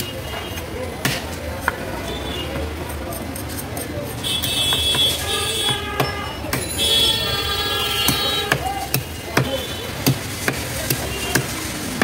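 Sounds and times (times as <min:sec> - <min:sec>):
market noise: 0:00.0 - 0:12.0
traffic noise: 0:00.0 - 0:12.0.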